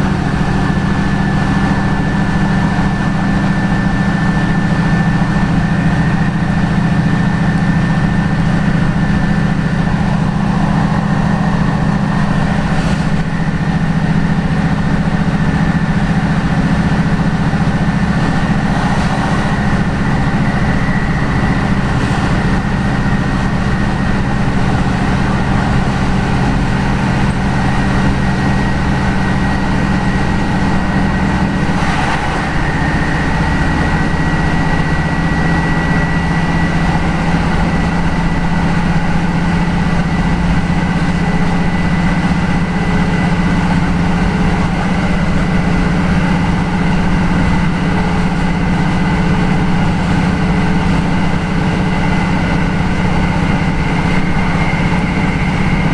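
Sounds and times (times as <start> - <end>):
train diesel engine drone: 0.0 - 55.9.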